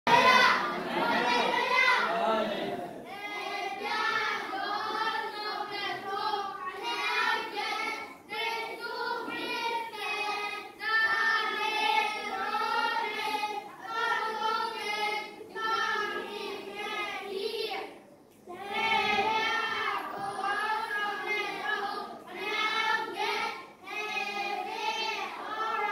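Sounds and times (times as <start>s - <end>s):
children singing: 0.1s - 25.9s.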